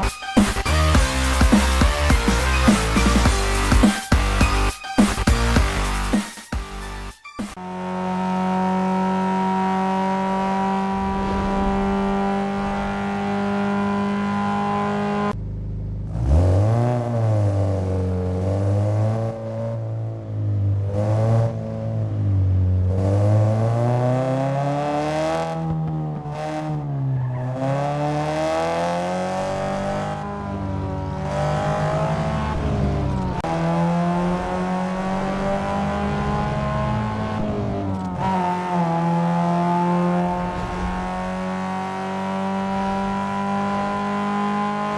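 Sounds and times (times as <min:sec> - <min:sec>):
car engine revving: 0:07.6 - 0:44.9.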